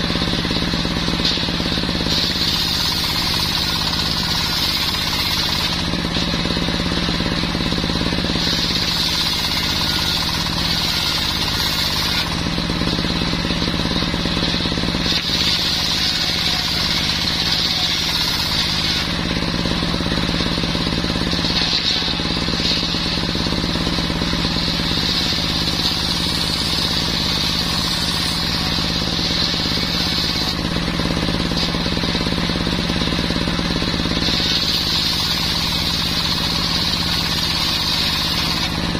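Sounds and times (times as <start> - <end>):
brush cutter sawing wood: 0.0 - 38.9.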